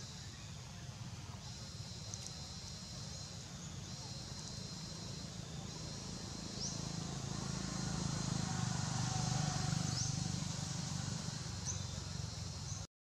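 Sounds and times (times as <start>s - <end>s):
high insect drone: 0.0s - 12.9s.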